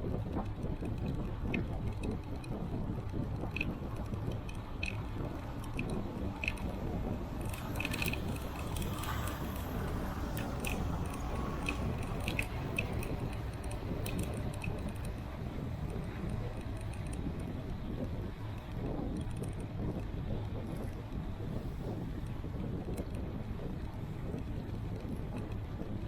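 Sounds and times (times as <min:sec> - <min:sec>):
bicycle clicks and rattles: 0:00.0 - 0:26.0
road rumble: 0:00.0 - 0:26.0
wind on microphone: 0:00.0 - 0:26.0.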